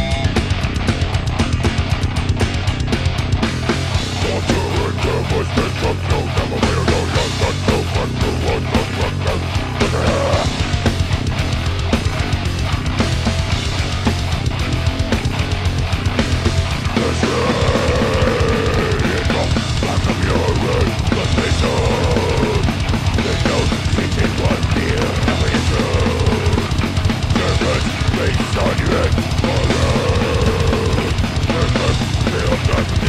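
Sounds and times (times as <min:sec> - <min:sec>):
death metal band playing live: 0:00.0 - 0:33.0.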